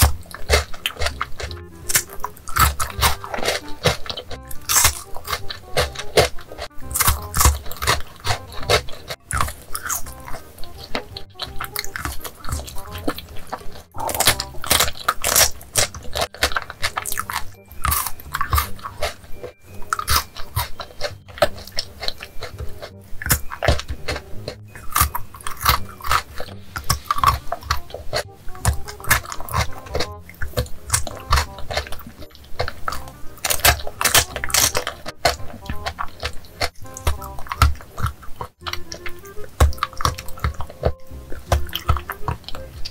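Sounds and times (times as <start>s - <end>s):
chewing crunchy chocolate bars: 0.0s - 42.9s.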